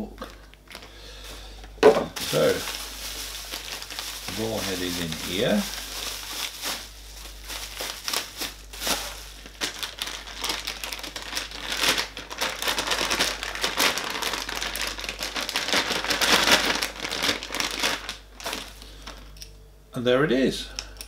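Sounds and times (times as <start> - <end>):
plastic bag crinkling: 2.1 - 19.4.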